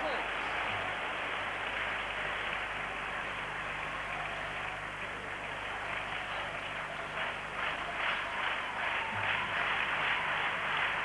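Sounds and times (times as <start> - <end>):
crowd clapping: 0.0 - 11.0
crowd voices: 0.0 - 11.0.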